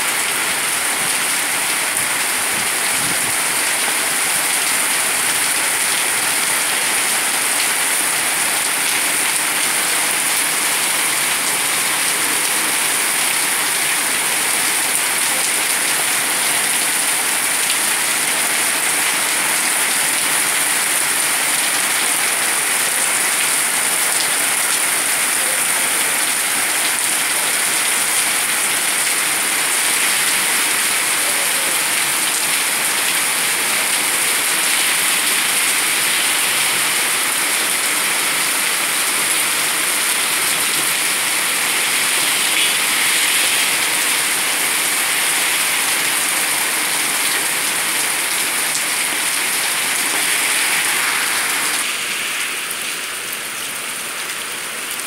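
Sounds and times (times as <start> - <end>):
rain on pavement: 0.0 - 55.0.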